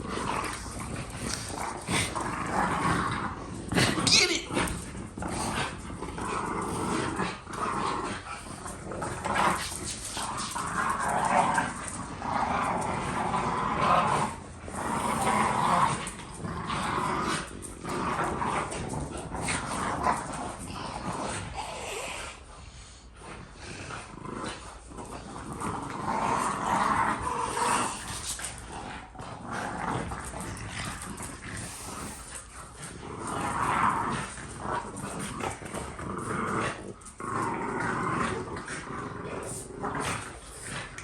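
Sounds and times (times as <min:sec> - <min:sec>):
dogs growling: 0:00.0 - 0:41.0.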